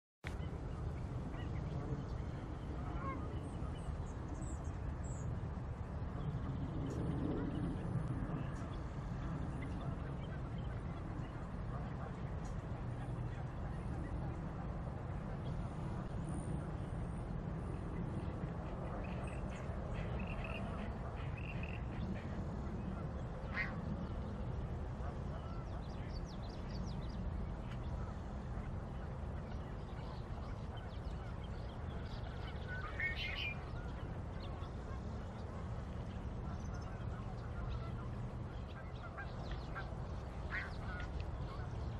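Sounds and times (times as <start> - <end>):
steady low rumble: 0.2 - 41.9.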